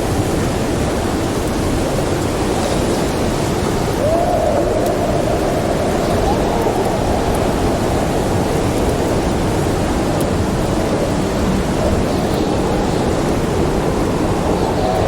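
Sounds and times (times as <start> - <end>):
storm wind howling: 0.0 - 15.0
wood fire crackles: 2.8 - 15.0.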